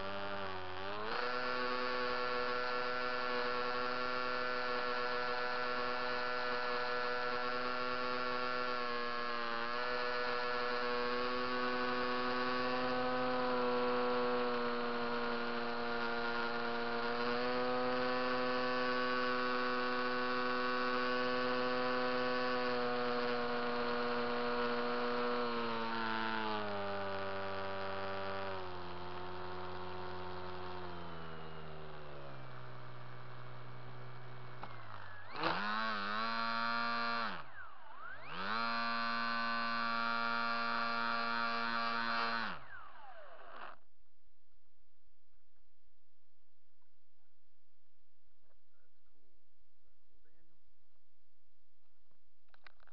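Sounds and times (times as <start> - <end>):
electric motor and propeller whine: 0.0 - 43.9.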